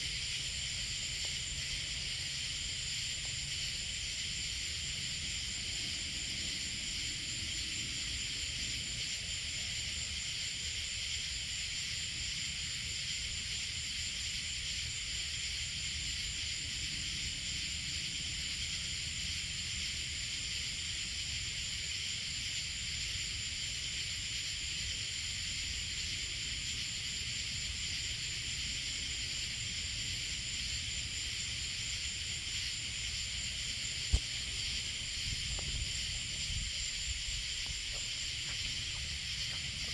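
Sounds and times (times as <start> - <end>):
night insects chorus: 0.0 - 39.9.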